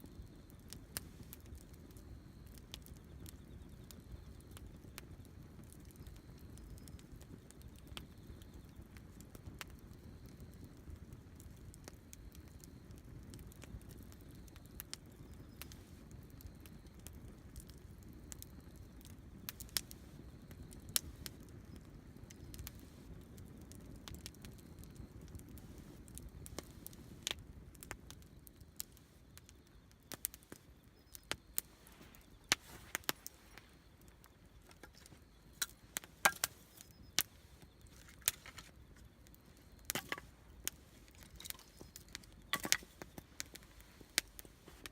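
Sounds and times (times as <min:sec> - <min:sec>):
campfire crackling and popping: 0:00.0 - 0:44.9
low rumble of burning: 0:00.0 - 0:44.9.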